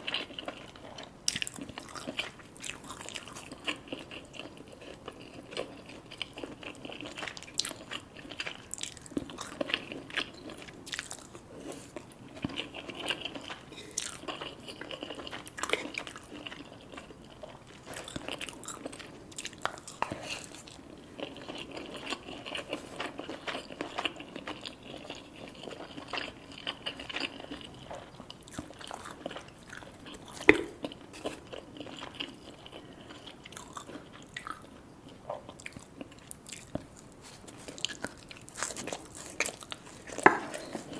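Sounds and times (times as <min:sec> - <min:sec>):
chewing crunchy food: 0:00.0 - 0:40.9.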